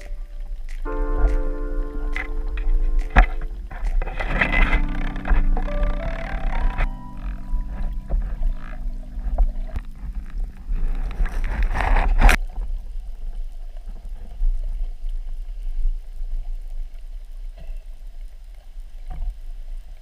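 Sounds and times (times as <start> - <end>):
rushing water: 0.0 - 20.0
underwater rumble and wash: 0.0 - 20.0.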